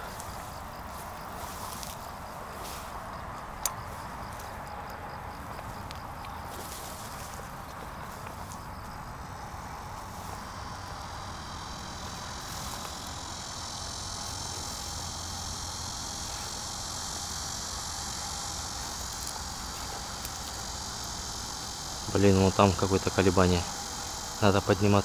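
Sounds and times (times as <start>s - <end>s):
low steady rumble: 0.0s - 24.8s
high-pitched insect chorus: 0.0s - 25.0s.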